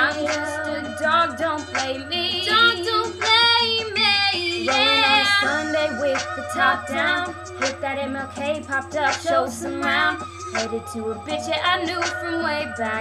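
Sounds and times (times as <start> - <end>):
women singing wordless melody: 0.0 - 13.0.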